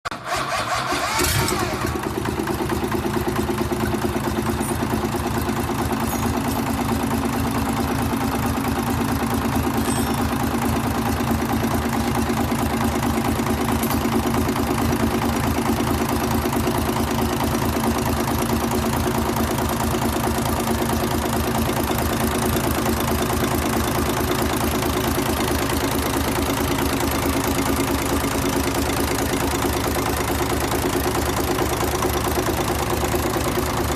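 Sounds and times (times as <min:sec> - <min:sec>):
diesel engine starting and idling: 0:00.1 - 0:33.9.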